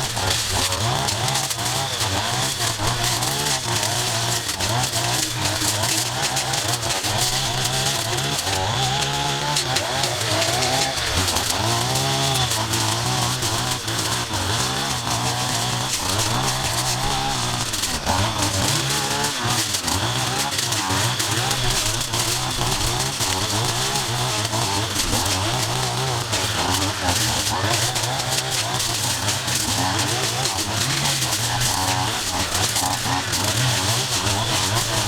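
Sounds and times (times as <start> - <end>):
small petrol engine revving: 0.0 - 35.0.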